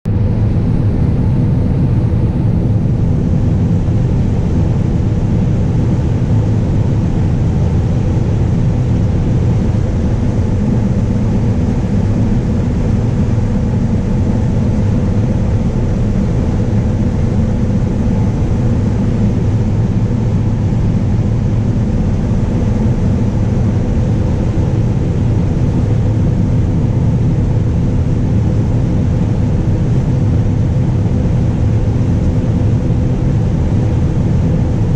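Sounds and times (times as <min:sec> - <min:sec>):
combine harvester engine drone: 0:00.1 - 0:34.9.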